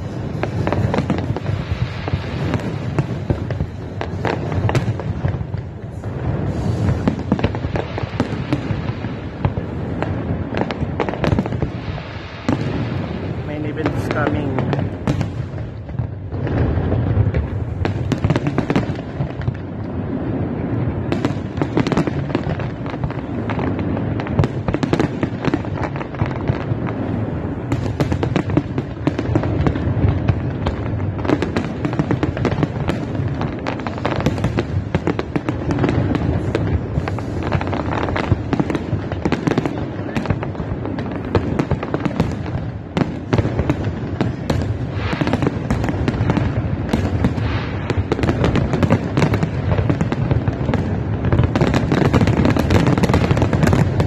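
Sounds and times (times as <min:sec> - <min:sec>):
firework bursts and crackling: 0:00.0 - 0:54.0.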